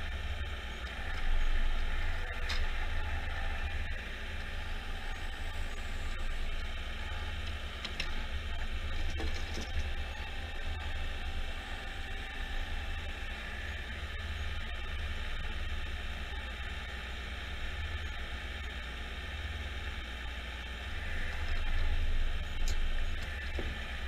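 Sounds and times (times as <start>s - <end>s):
forestry machine engine running: 0.0s - 24.0s.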